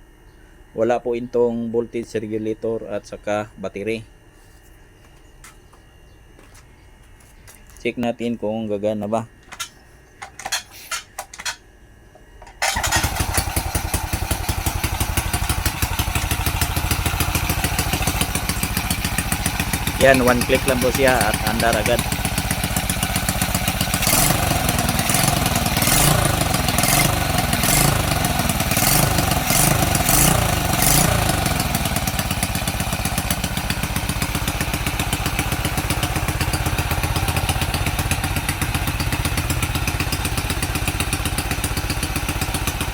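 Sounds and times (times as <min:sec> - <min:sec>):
motorcycle engine surging and idling: 0:05.0 - 0:07.8, 0:09.4 - 0:11.6, 0:12.2 - 0:42.9.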